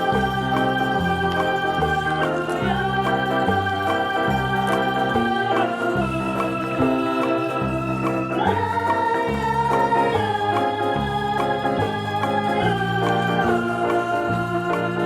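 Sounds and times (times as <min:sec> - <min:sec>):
electronic organ keyboard music: 0:00.0 - 0:15.0.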